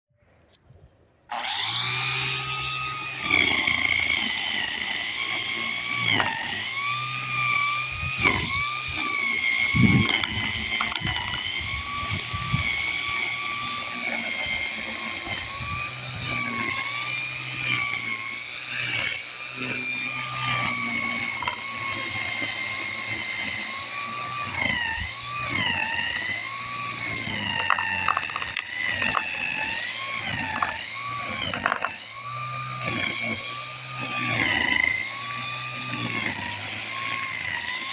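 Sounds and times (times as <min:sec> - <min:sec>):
electric grass trimmer whining: 0:01.3 - 0:37.9.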